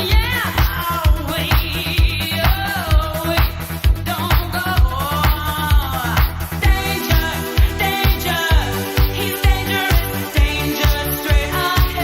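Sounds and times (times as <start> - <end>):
dance music: 0.0 - 12.0
kick drum: 0.0 - 12.0.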